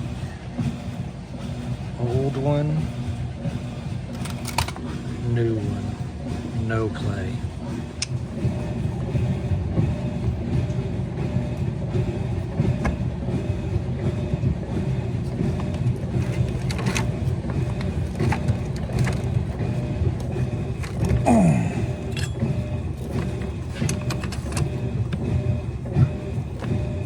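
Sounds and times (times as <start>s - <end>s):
low rumble with faint hum: 0.0s - 27.0s.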